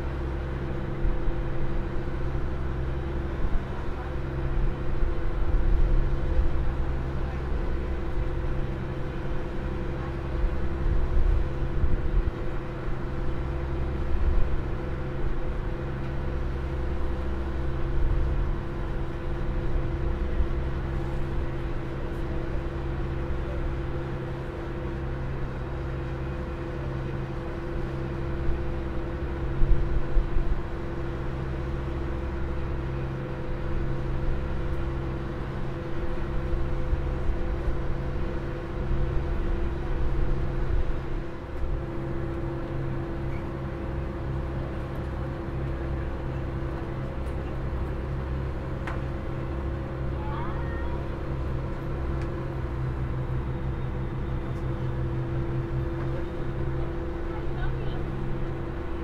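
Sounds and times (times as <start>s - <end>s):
ferry engines droning: 0.0s - 59.0s.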